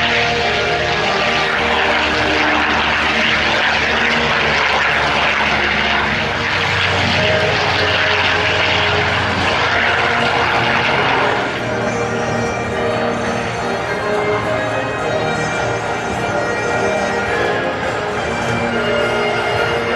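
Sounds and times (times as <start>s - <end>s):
propeller airplane engine: 0.0s - 19.9s.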